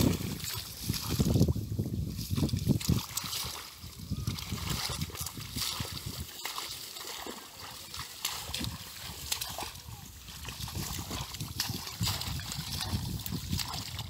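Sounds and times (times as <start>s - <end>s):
splashing in shallow water: 0.0s - 14.0s.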